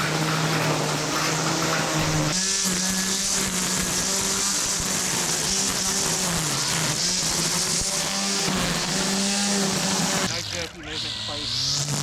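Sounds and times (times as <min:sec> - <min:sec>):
string trimmer whining: 0:00.0 - 0:12.0.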